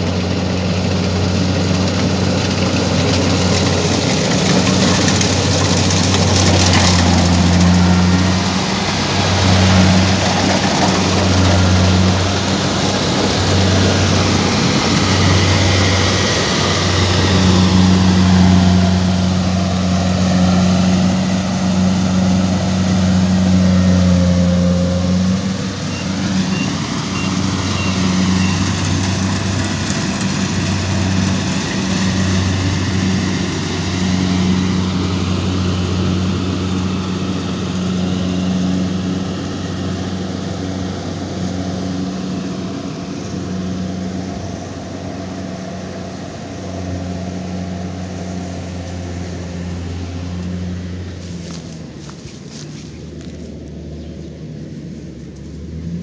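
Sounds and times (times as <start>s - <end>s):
combine harvester engine humming: 0.0s - 56.0s.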